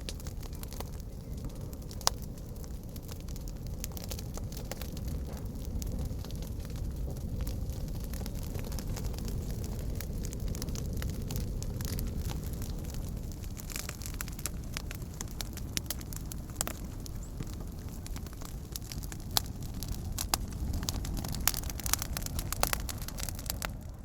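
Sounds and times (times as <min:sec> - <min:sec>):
burning wood crackling and popping: 0:00.0 - 0:24.0
low rush of flame: 0:00.0 - 0:24.0.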